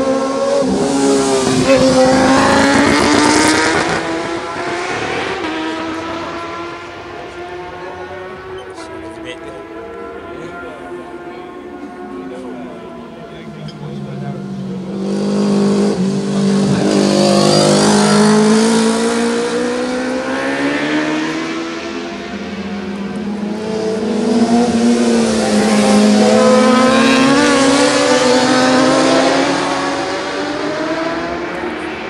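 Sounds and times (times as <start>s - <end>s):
racing motorcycles passing: 0.0s - 32.0s.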